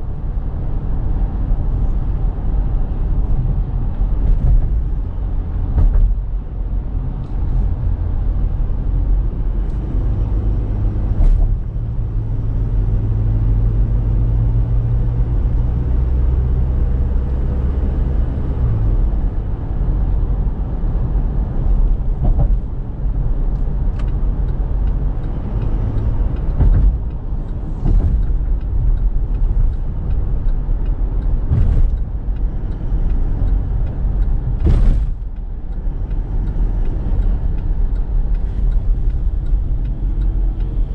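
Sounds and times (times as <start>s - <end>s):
diesel engine drone in car cabin: 0.0s - 40.9s.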